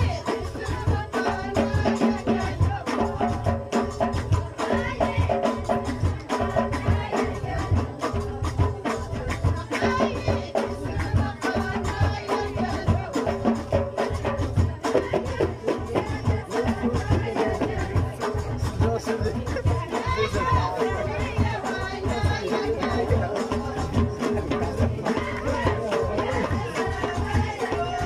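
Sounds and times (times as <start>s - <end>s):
frame drums beating: 0.0s - 28.0s
people singing: 0.0s - 28.0s.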